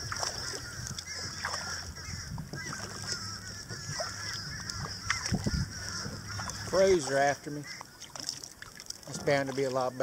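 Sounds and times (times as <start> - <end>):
crows cawing: 0.2 - 8.2.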